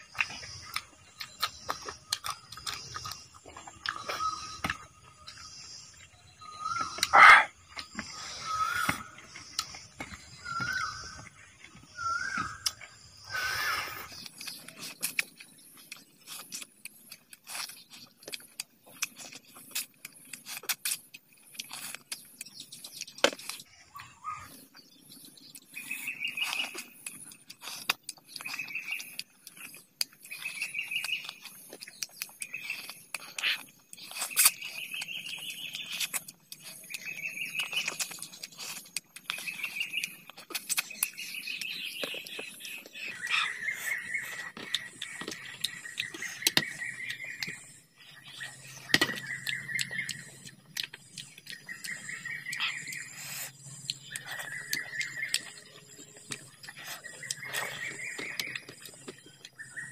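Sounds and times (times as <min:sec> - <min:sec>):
chirping in background: 0:00.0 - 0:59.9
man chewing and smacking: 0:00.0 - 0:59.9.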